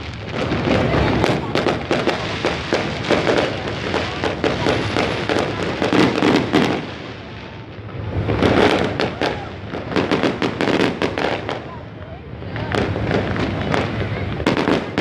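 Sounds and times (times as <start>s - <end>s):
crowd din: 0.0s - 15.0s
firecrackers cracking and banging: 0.0s - 15.0s.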